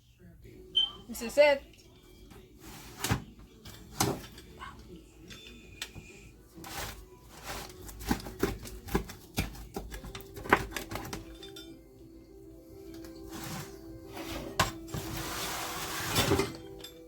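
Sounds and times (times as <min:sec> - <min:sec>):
faint background music: 0:00.0 - 0:17.0.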